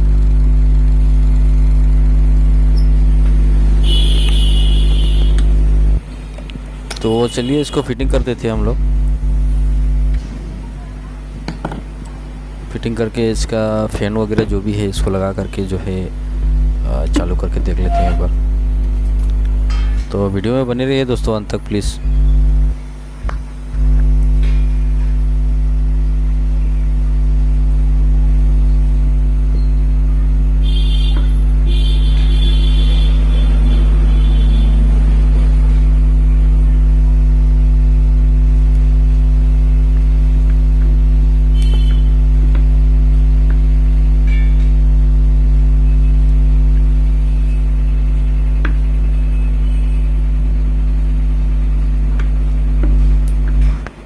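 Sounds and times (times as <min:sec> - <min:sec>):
loud buzzing low hum: 0:00.0 - 0:54.0.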